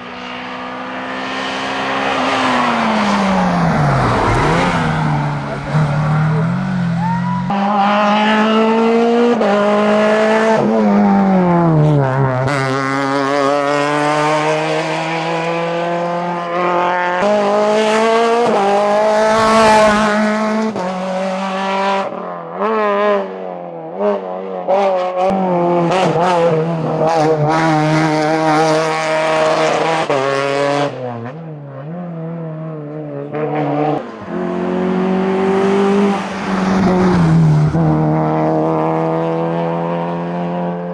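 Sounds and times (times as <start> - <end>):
car engine revving hard: 0.0 - 23.4, 24.8 - 40.9
different car engine: 0.0 - 24.2, 24.8 - 40.9.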